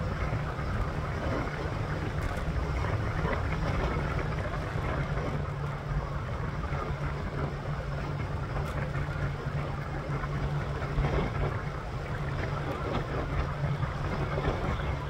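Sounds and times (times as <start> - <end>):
scooter drive humming: 0.0 - 15.0
wind rushing over microphone: 0.0 - 15.0.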